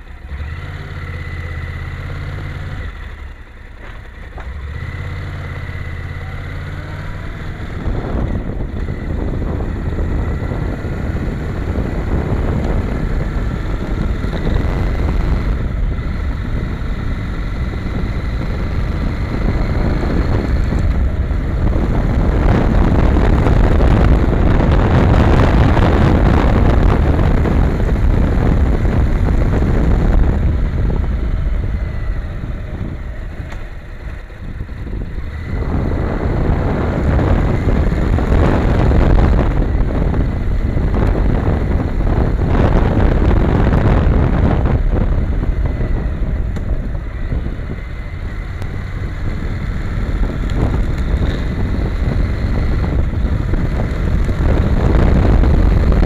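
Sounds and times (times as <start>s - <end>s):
motorcycle engine: 0.0s - 56.0s
tyres on road: 0.0s - 56.0s
wind buffeting microphone: 4.7s - 56.0s.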